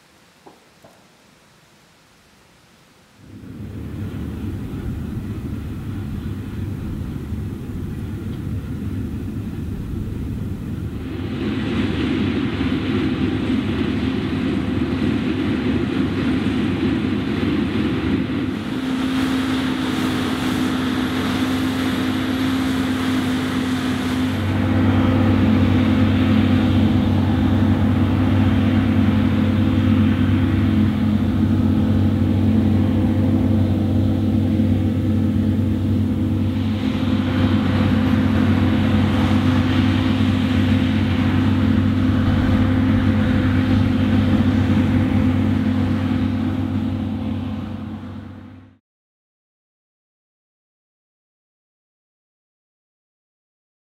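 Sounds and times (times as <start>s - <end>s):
combine harvester running: 3.2s - 48.8s.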